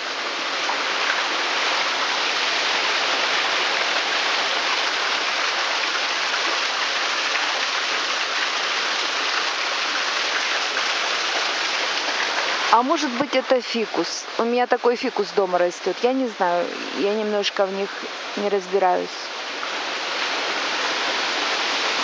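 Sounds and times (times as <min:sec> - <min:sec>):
stream running water: 0:00.0 - 0:22.0.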